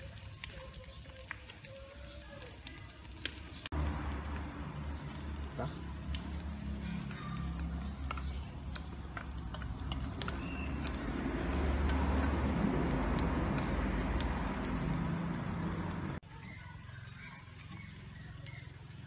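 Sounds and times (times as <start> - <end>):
outdoor background rumble: 2.3 - 19.0.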